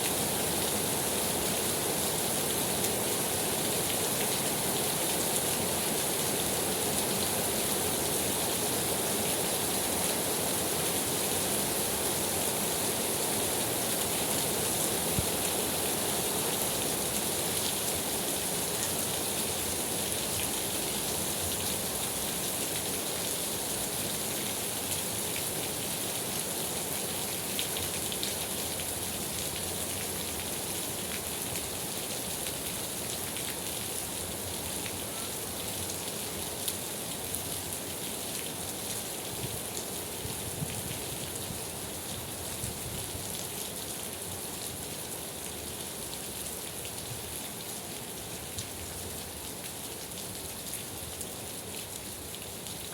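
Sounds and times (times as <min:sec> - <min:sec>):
steady rainfall: 0:00.0 - 0:52.9.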